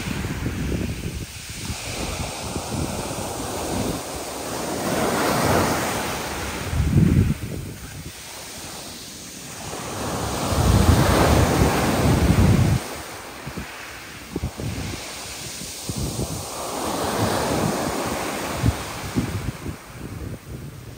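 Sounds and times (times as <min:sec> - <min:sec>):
rough sea waves surging: 0:00.0 - 0:20.9
wind buffeting microphone: 0:00.0 - 0:20.9.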